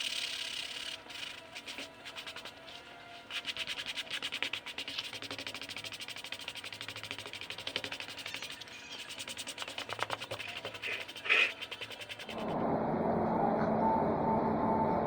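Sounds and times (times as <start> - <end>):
sandpaper rasping on hide: 0.0 - 12.5.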